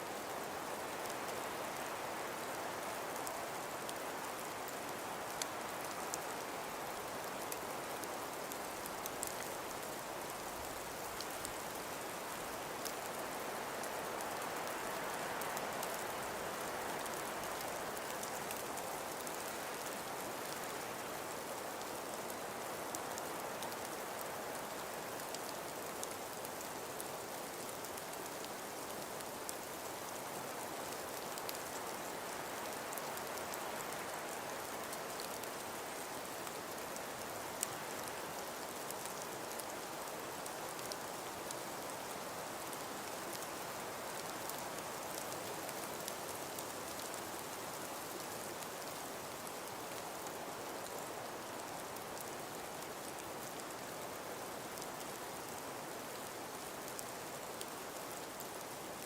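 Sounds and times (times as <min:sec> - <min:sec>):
faint ticks of snow: 0:00.0 - 0:59.0.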